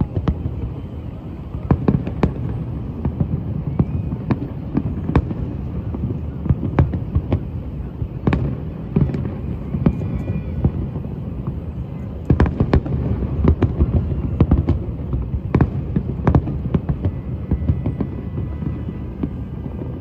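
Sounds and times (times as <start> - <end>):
fireworks bangs and cracks: 0.0 - 20.0.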